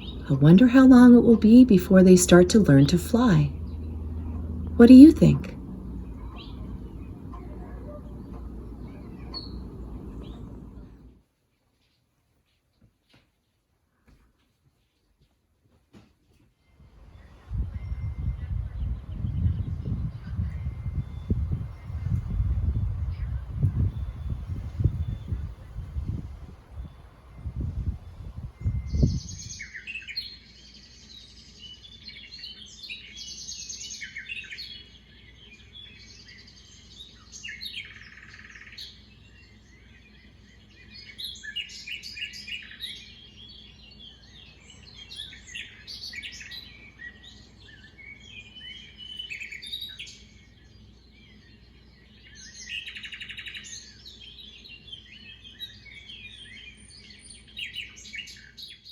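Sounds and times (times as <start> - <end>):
small birds chirping: 0.0 - 14.4, 16.6 - 58.9.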